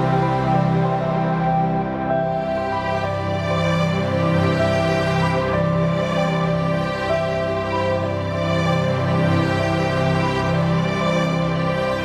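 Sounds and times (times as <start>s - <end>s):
instrumental music with held chords: 0.0s - 12.0s.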